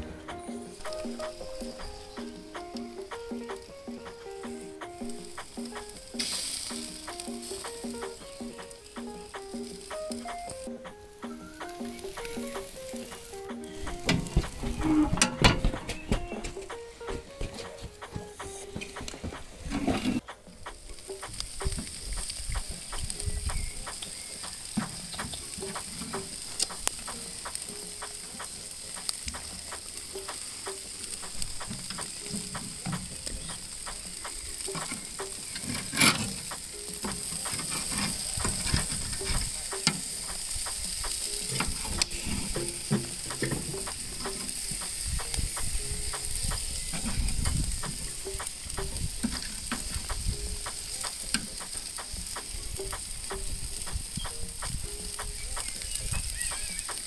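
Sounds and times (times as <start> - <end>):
meat sizzling on a grill: 0.0 - 17.0, 19.6 - 57.0
fat crackling and popping: 0.0 - 57.0.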